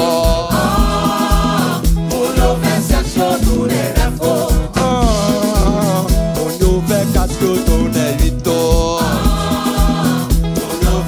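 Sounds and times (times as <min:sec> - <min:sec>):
bass and guitar: 0:00.0 - 0:11.0
drums beating: 0:00.0 - 0:11.0.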